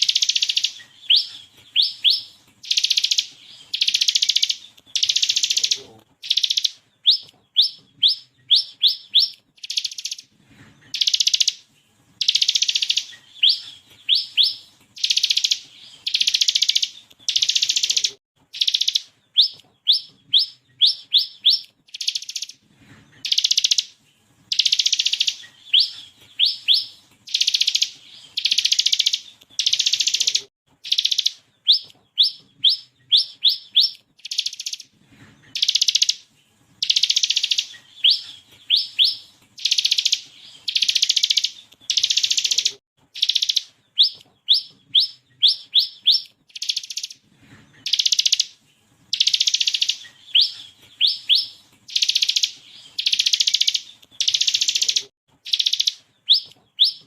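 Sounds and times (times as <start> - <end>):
bird singing with rattling trills: 0.0 - 57.0.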